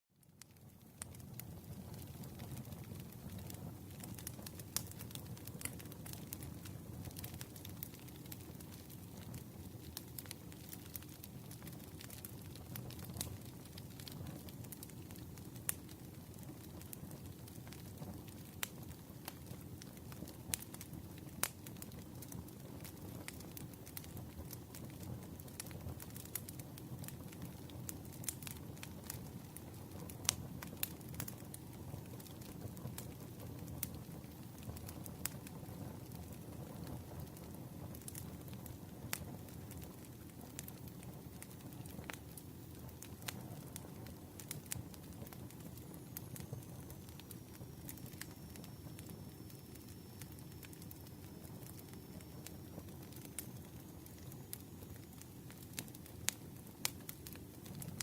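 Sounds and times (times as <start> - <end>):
fire crackling and popping: 0.2 - 58.0
low rumble of flames: 0.2 - 58.0.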